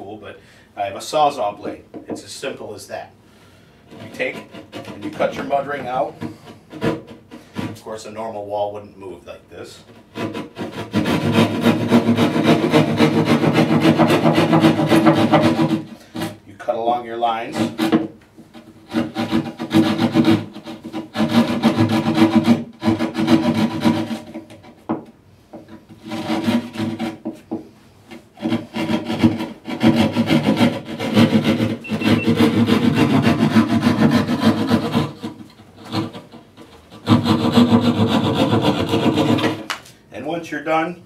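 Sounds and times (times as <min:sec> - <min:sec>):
saw blade cutting drywall: 0:03.9 - 0:08.0, 0:09.7 - 0:24.9, 0:25.6 - 0:39.7.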